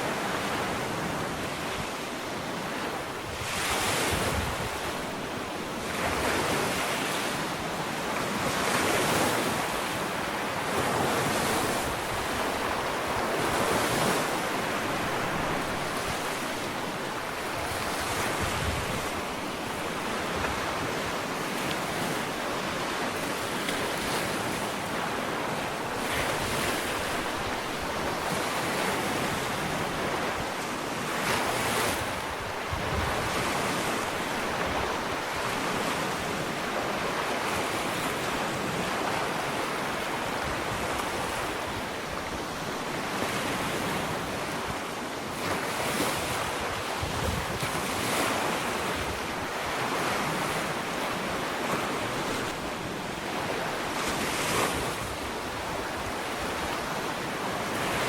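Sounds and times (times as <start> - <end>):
ocean waves on sandy beach: 0.0 - 58.0
wind: 0.0 - 58.0.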